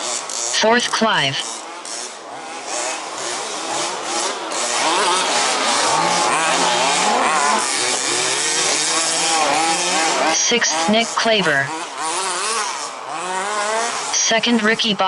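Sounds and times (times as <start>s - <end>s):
rc buggy engines revving: 0.0s - 15.0s.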